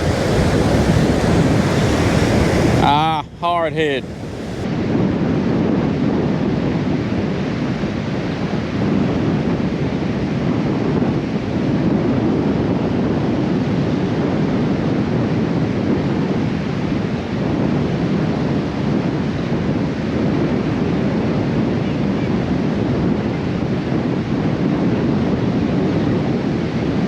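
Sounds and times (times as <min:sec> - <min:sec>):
surf washing on beach: 0:00.0 - 0:27.0
wind buffeting microphone: 0:00.0 - 0:27.0.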